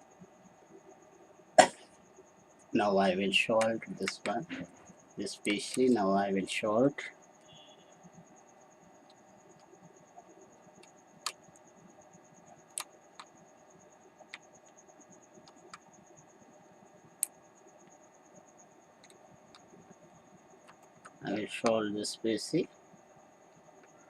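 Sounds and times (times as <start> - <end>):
steady high-pitched whine: 0.0 - 24.0.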